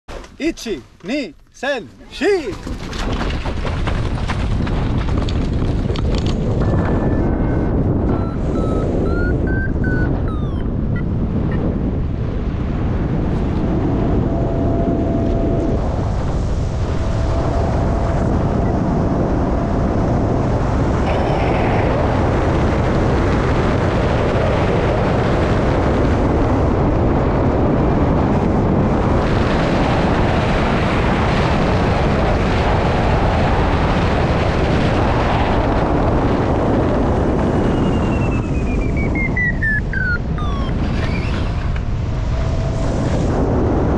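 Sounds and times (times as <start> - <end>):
wind buffeting microphone: 1.9 - 43.9.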